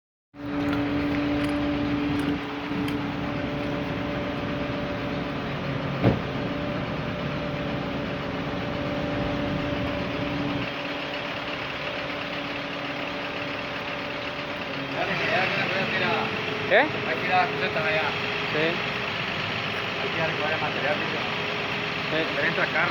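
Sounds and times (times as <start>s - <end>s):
vehicle engine running: 0.4s - 22.9s.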